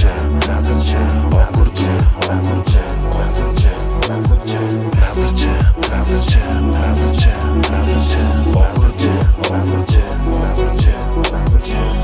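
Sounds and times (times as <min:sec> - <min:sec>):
hip hop beat: 0:00.0 - 0:12.0.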